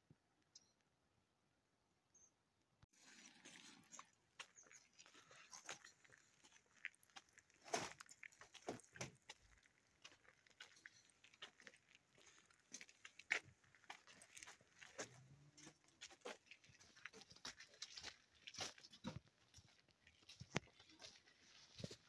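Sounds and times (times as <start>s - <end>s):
footsteps on gravel: 3.0s - 22.0s.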